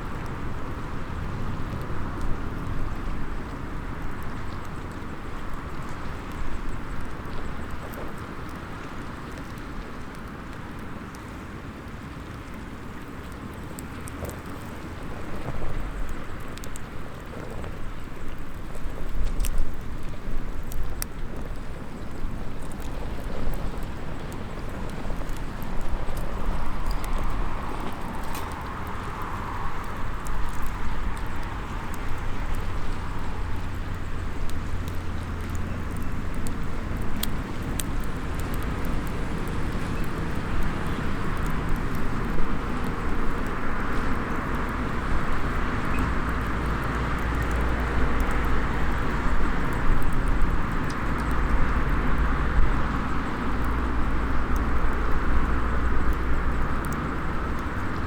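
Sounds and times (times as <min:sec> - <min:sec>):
seaside ambience: 0:00.0 - 0:58.0
wood fire snapping: 0:00.0 - 0:58.0.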